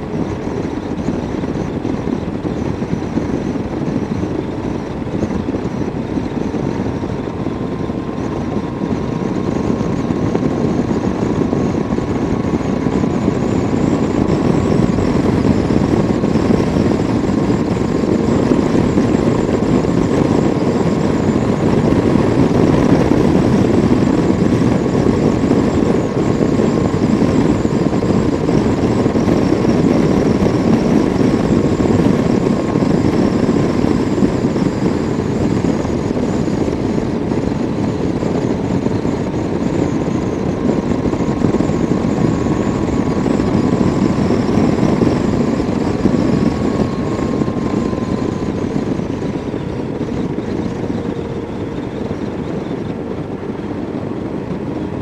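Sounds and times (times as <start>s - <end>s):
faint steady whine: 0.0s - 55.0s
wind rush on microphone: 0.0s - 55.0s.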